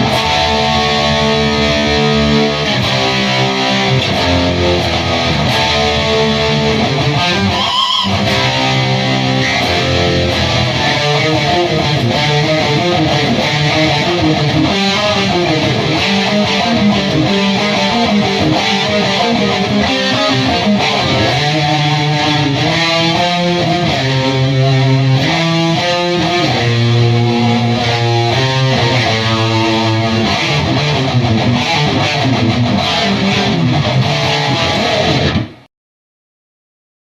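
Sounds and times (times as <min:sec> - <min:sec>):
electric guitar strumming riffs: 0:00.0 - 0:35.7.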